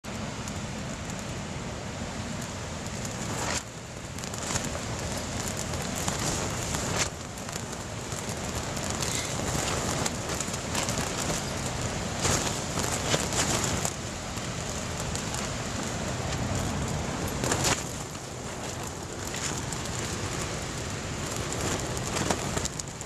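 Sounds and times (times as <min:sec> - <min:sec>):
strong wind buffeting: 0:01.6 - 0:23.0
tent fabric flapping and snapping: 0:02.2 - 0:23.0.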